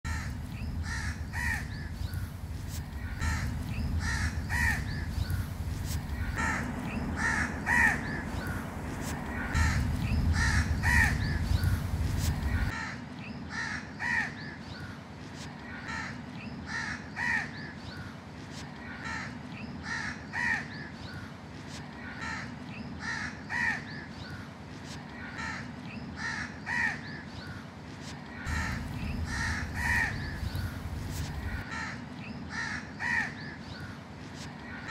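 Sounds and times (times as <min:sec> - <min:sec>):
crows cawing: 0:00.1 - 0:14.5, 0:15.7 - 0:17.6, 0:18.9 - 0:20.9, 0:22.0 - 0:24.0, 0:25.2 - 0:27.6, 0:28.3 - 0:34.0.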